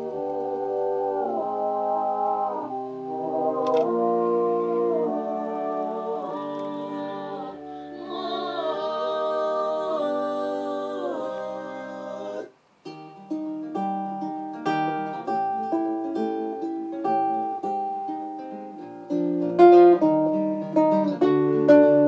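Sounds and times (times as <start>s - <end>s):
plucked guitar notes: 0.0s - 12.2s, 12.9s - 22.0s
sung and instrumental notes: 0.0s - 22.0s.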